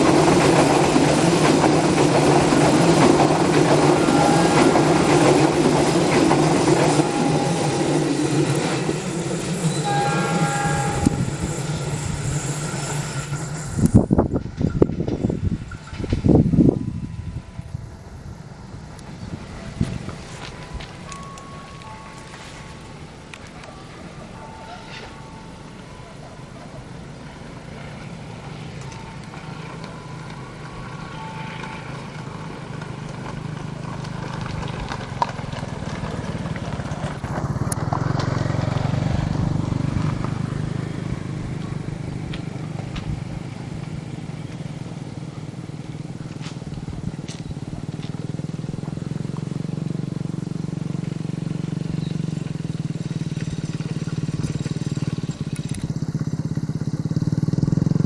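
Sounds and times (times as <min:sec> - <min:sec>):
diesel locomotive engine rumbling: 0:00.0 - 0:58.0.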